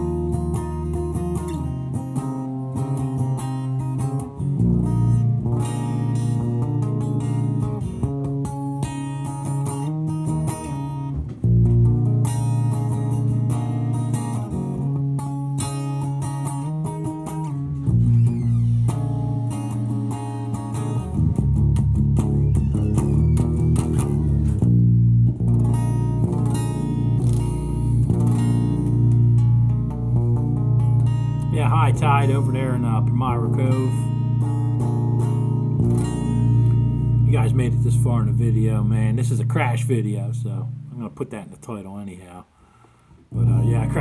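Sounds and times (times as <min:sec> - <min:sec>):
guitar music with bass: 0:00.0 - 0:44.0.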